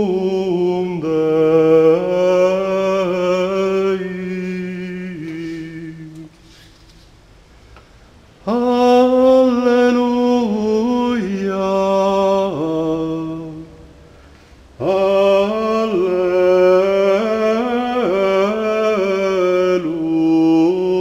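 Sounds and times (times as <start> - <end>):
man singing chant: 0.0 - 6.5, 8.4 - 13.9, 14.8 - 21.0.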